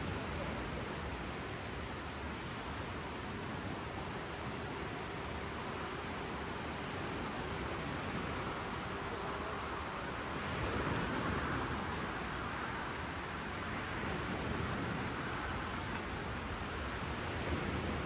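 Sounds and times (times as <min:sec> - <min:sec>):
waves washing on shore: 0:00.0 - 0:18.0.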